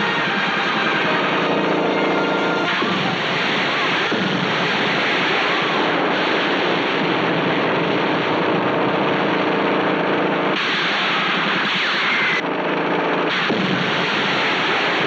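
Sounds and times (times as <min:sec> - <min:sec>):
helicopter engine and rotor noise: 0:00.0 - 0:15.0.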